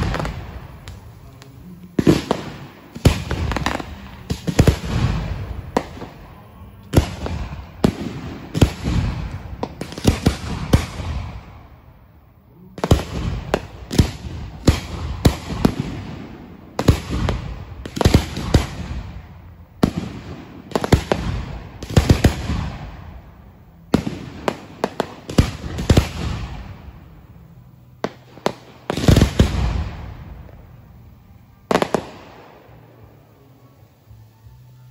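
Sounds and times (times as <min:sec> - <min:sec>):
fireworks banging and crackling: 0:00.0 - 0:34.9.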